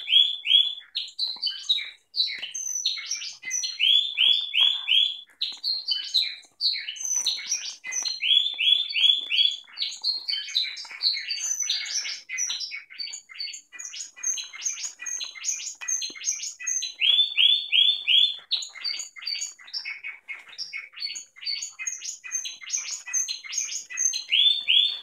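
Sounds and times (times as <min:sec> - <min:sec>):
canaries singing chirps and trills: 0:00.0 - 0:25.0.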